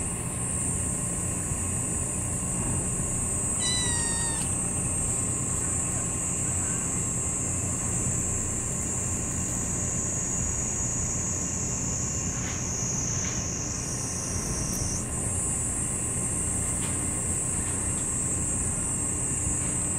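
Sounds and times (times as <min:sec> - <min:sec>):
cicadas buzzing: 0:00.0 - 0:19.9.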